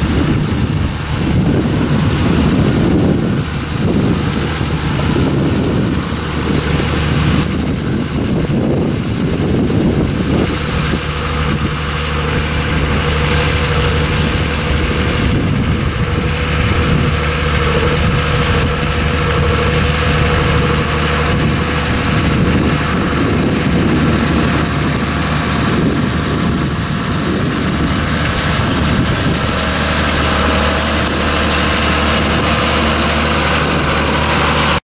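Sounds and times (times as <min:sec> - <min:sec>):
tractor engine droning: 0:00.0 - 0:34.8.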